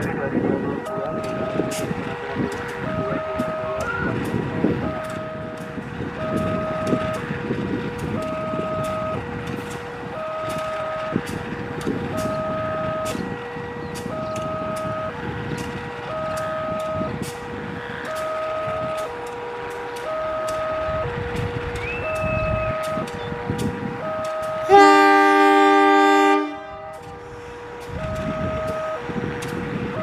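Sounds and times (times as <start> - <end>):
locomotive diesel engine running: 0.0 - 30.0
two-tone electronic warning alarm: 0.6 - 11.4, 12.0 - 30.0.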